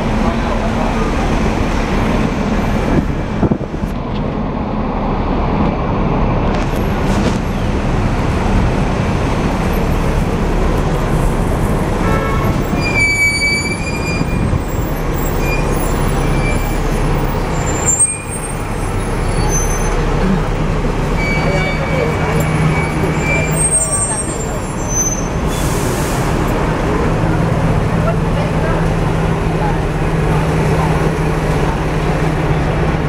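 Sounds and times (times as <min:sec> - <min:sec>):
tram rumbling on tracks: 0:00.0 - 0:33.0.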